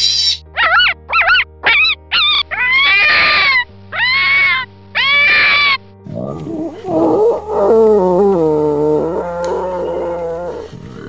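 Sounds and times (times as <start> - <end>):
background music: 0.4 - 11.0
boar calling: 0.6 - 11.0
fox crying: 0.6 - 11.0.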